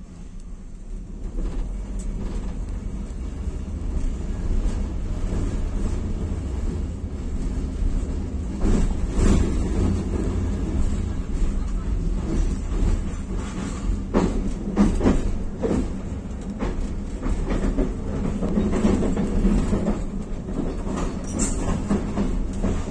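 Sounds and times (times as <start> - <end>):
tram rumbling on rails: 0.0 - 22.9.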